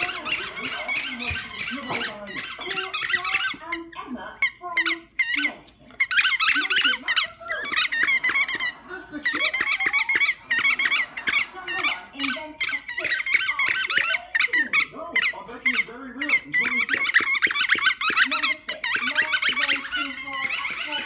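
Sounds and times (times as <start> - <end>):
dog chewing a ball: 0.0 - 21.0
squeaky toy squeaking: 0.0 - 21.0.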